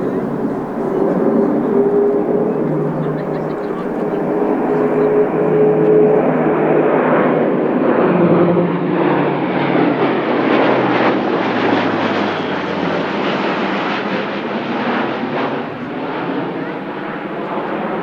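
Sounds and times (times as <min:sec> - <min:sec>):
low propeller tone: 0:00.0 - 0:18.0
turboprop engines roaring: 0:00.0 - 0:18.0.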